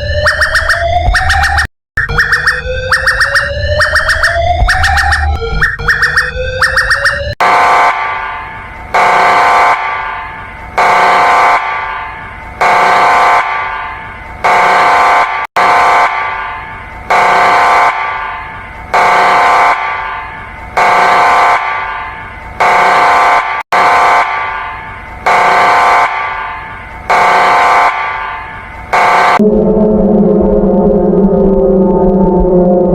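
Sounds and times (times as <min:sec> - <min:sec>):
emergency alarm horn blasts: 0:00.0 - 0:30.5.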